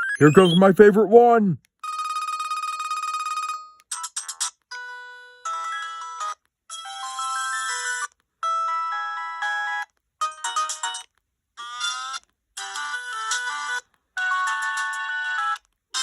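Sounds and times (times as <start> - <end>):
polyphonic ringtone melody: 1.8 - 16.0.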